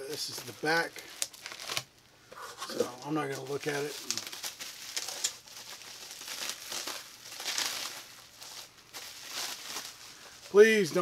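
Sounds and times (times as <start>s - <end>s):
packaging crinkling and rustling: 0.1s - 11.0s.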